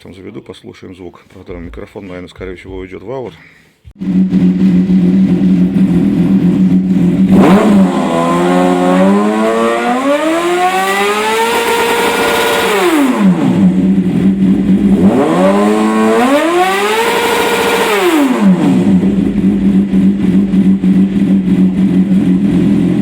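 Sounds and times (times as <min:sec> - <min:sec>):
motorcycle engine revving: 0:04.0 - 0:23.0.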